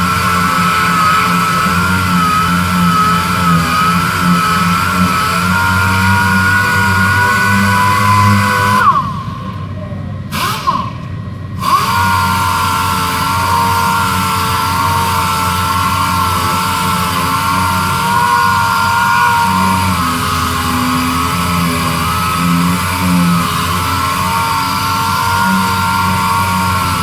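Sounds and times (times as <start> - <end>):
power sander whining: 0.0 - 27.0.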